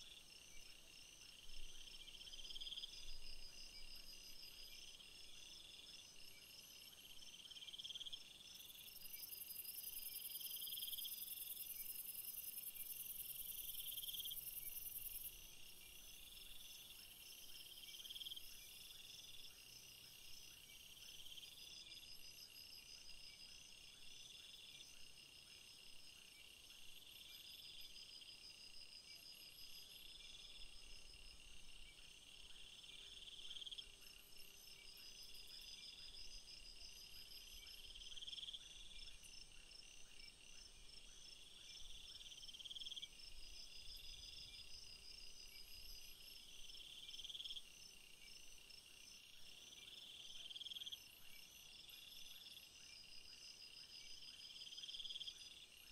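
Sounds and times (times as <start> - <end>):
insects chirping: 0.0 - 55.9.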